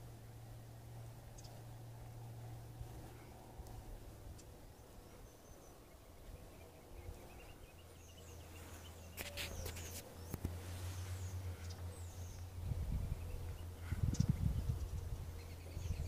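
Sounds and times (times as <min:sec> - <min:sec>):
low hum: 0:00.0 - 0:16.0
songbirds chirping: 0:00.0 - 0:16.0.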